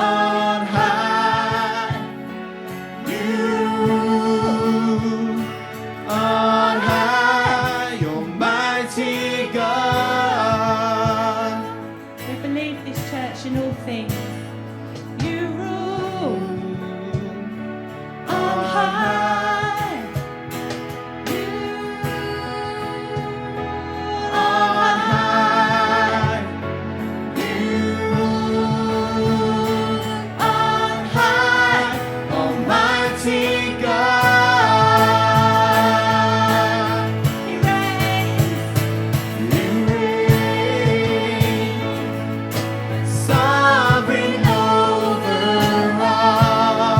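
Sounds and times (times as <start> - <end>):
person singing worship song: 0.0 - 12.4, 15.2 - 20.5, 21.2 - 46.9
instrumental backing music: 0.0 - 46.9.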